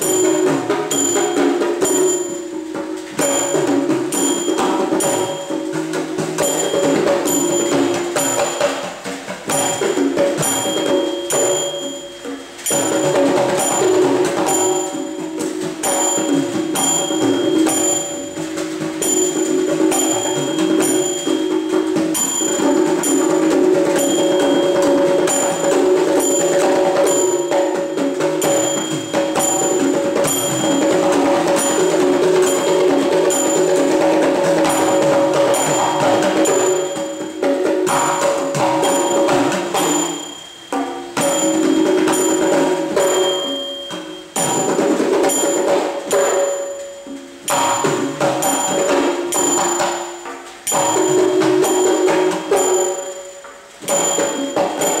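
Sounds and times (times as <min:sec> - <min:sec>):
hourglass drum: 0:00.0 - 0:55.0
pot drums: 0:00.0 - 0:55.0
small hand cymbals clashing: 0:00.0 - 0:55.0.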